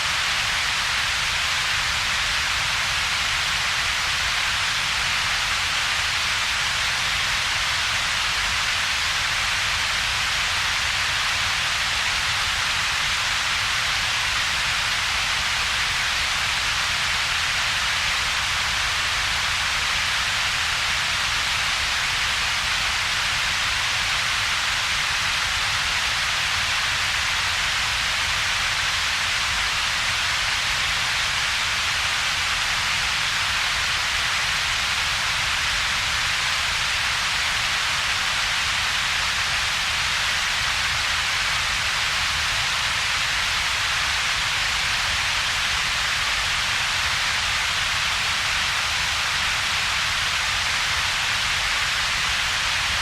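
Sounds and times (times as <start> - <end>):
steady synthetic hiss: 0.0 - 53.0.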